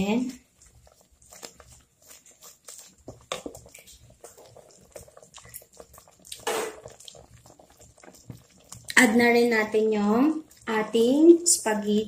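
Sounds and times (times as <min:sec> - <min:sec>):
sauce simmering in a pot: 0:00.0 - 0:12.0
wooden spatula stirring: 0:00.0 - 0:12.0
bubbles popping: 0:00.3 - 0:11.2.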